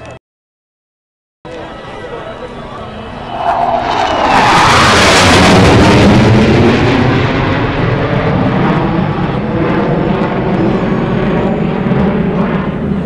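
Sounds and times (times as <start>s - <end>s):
jet engine roar: 2.4s - 13.0s.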